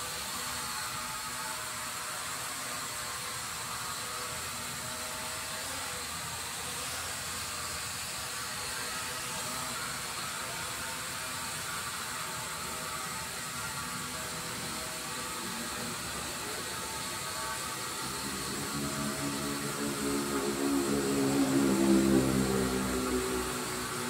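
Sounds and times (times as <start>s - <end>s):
toy drone propellers whirring: 0.0s - 24.0s.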